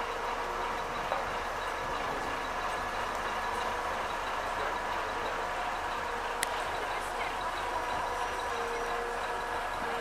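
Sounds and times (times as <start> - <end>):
electric bus humming: 0.0 - 10.0
faint whine tones: 0.0 - 10.0
street noise: 0.0 - 10.0.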